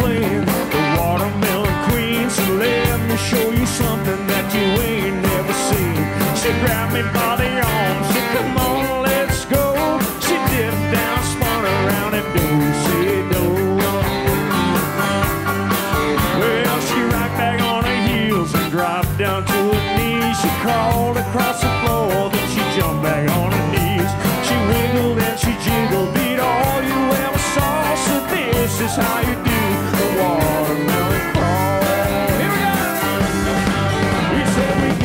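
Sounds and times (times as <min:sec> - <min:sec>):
live country band: 0:00.0 - 0:35.0.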